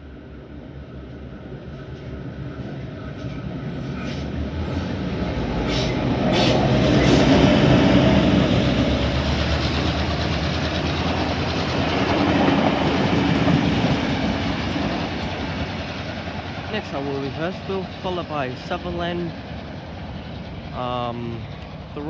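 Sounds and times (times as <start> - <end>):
diesel locomotive engine passing: 0.0 - 22.0
train wheels rumbling and clicking: 0.6 - 22.0.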